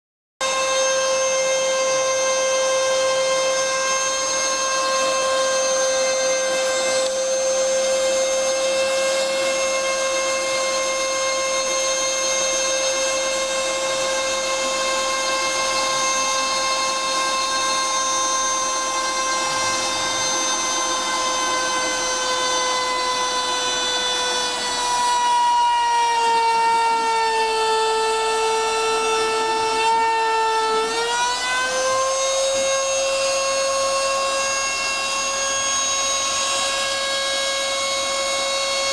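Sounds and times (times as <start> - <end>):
router spindle whining while milling: 0.4 - 38.9.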